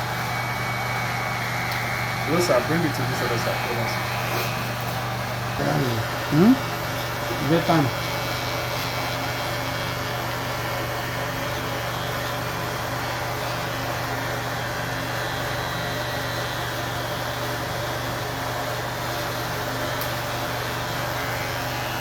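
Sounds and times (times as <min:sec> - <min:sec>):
small electric motor humming: 0:00.0 - 0:22.0.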